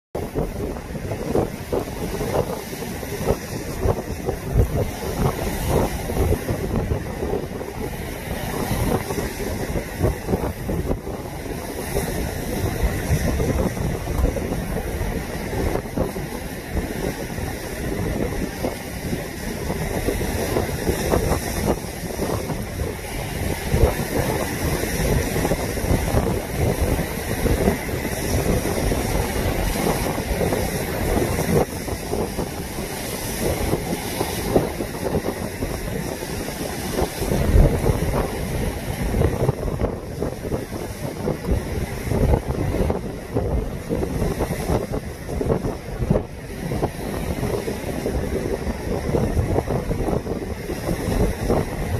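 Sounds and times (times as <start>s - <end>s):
waves breaking against seawall: 0.2s - 51.9s
wind buffeting microphone: 0.2s - 51.9s.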